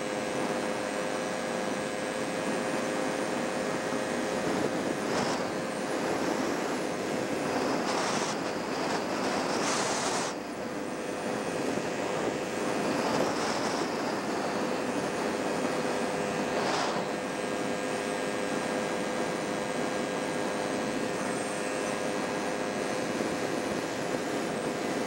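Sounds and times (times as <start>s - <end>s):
constant low hum: 0.0s - 25.0s
road and wind noise: 0.0s - 25.0s.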